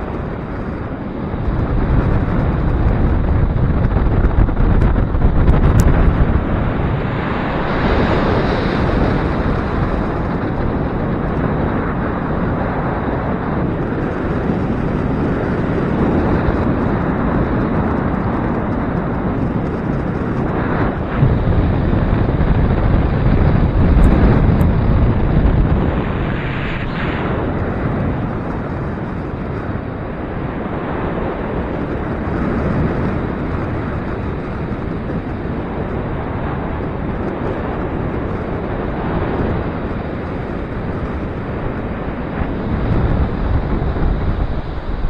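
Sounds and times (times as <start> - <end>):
gusty wind buffeting microphone: 0.0 - 45.0.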